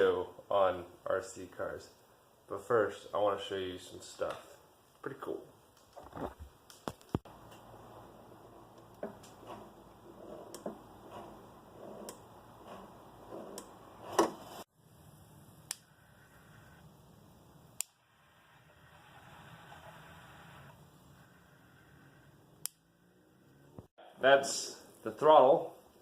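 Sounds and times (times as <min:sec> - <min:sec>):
low hiss: 0:00.0 - 0:26.0.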